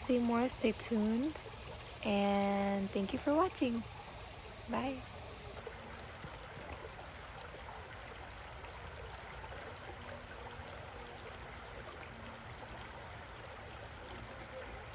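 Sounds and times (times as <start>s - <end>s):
small river flowing: 0.0s - 14.9s.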